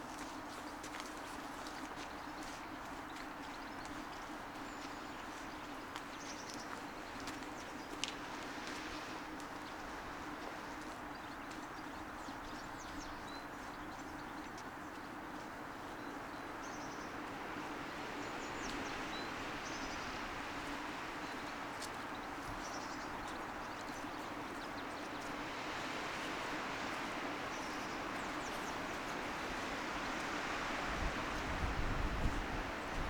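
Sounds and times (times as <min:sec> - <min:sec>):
wind through trees: 0:00.0 - 0:33.0.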